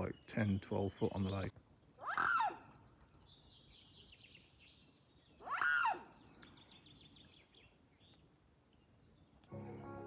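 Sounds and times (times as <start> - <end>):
small birds twittering: 0.0 - 10.0.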